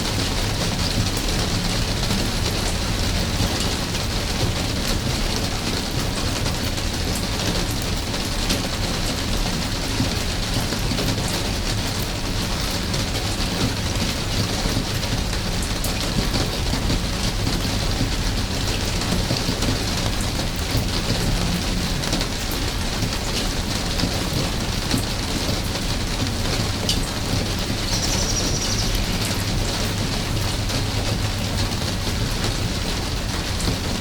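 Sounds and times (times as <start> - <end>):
sharp drips and patters: 0.0 - 34.0
steady rain falling: 0.0 - 34.0.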